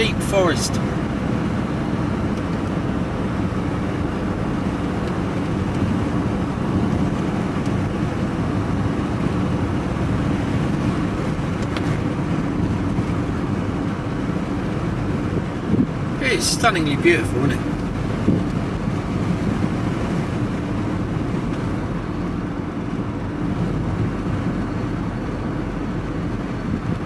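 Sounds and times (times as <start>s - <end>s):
engine and tyre road noise: 0.0s - 27.0s.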